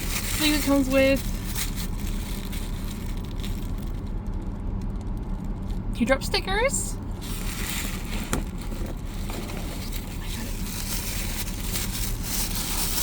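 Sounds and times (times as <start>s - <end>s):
packaging rustling: 0.0s - 5.6s, 7.1s - 13.0s
car interior hum: 0.0s - 13.0s.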